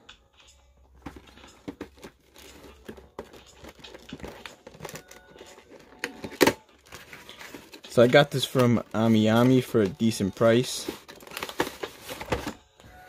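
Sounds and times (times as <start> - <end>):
cardboard box rustling and crinkling: 1.0 - 12.6.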